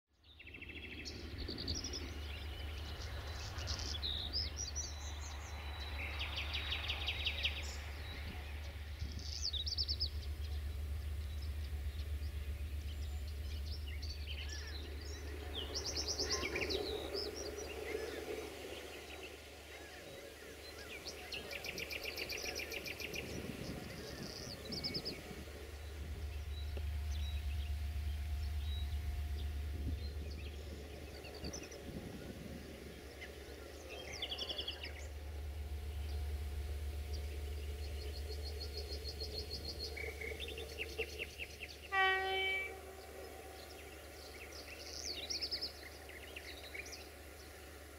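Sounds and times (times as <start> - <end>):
songbirds chirping and trilling: 0.1 - 47.9.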